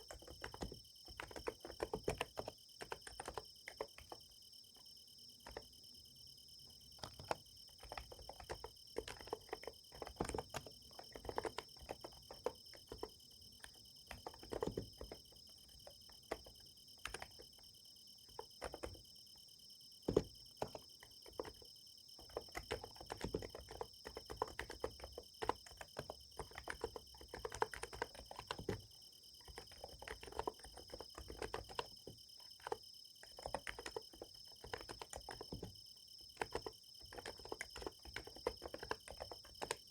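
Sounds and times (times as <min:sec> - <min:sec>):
keyboard typing: 0:00.0 - 0:04.3, 0:05.4 - 0:05.7, 0:07.0 - 0:17.6, 0:18.2 - 0:19.0, 0:20.0 - 0:39.9
night insects chirring: 0:00.0 - 0:39.9.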